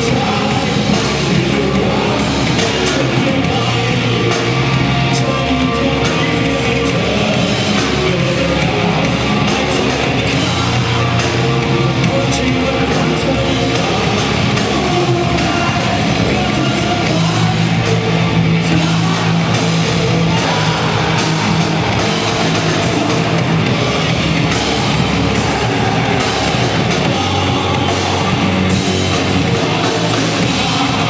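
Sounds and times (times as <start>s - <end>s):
distorted electric guitar: 0.0s - 31.0s
drum and cymbal hits: 0.0s - 31.0s
person singing: 0.0s - 31.0s.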